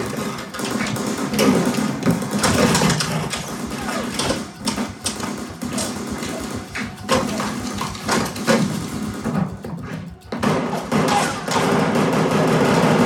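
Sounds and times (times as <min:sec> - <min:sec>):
low film score drone: 0:00.0 - 0:13.0
sharp cracks and knocks: 0:00.0 - 0:13.0.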